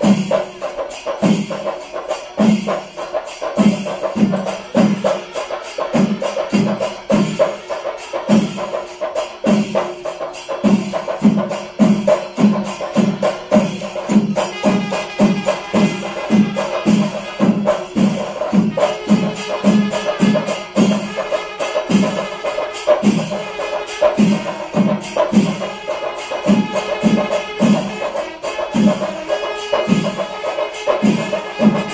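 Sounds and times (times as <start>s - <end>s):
drums beaten: 0.0s - 31.9s
hand cymbals clashing: 0.0s - 31.9s
wind instrument held notes: 0.0s - 31.9s.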